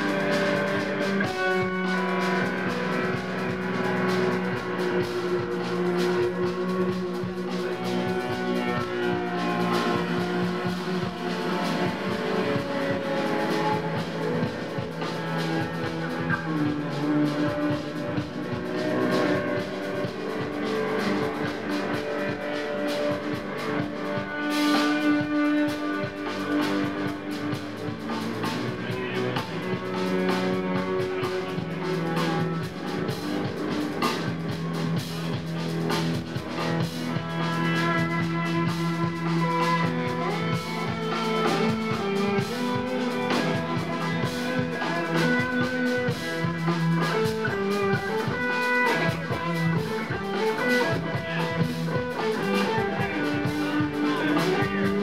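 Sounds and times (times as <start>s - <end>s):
drum kit: 0.0s - 55.0s
electric guitars: 0.0s - 55.0s
keyboards: 0.0s - 55.0s.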